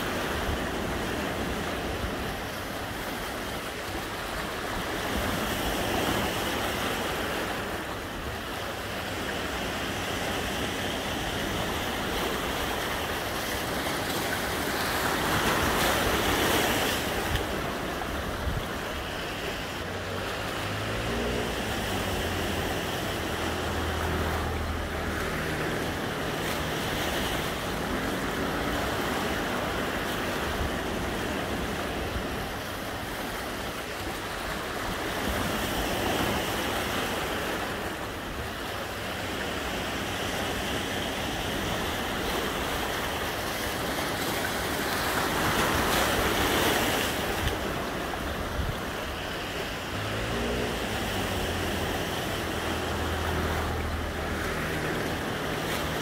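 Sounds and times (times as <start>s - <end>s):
ocean waves and surf: 0.0s - 56.0s.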